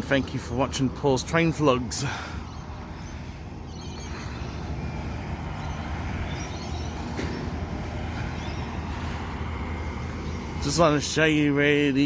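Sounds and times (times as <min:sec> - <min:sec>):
heavy vehicles rumbling: 0:00.0 - 0:12.0.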